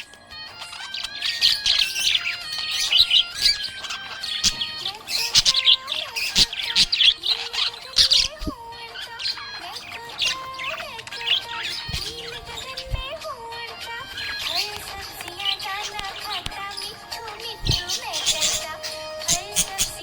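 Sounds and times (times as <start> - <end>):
budgerigar chirping and warbling: 0.0 - 20.0.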